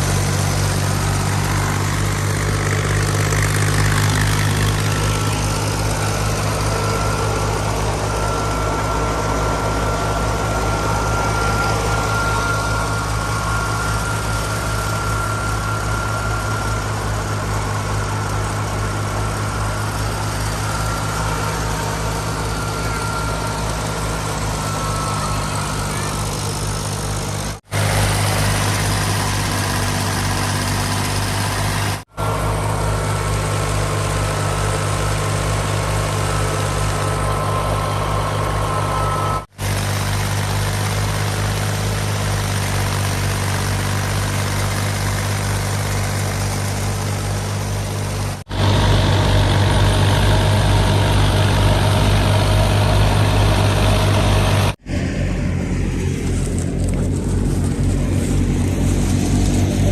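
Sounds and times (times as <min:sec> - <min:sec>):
thresher rushing and rattling: 0:00.0 - 0:59.9
tractor diesel engine running: 0:00.0 - 0:59.9.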